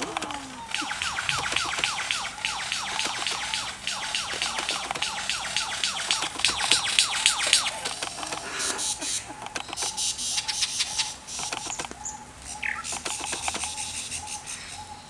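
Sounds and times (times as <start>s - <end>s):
lyrebird singing: 0.0s - 15.0s.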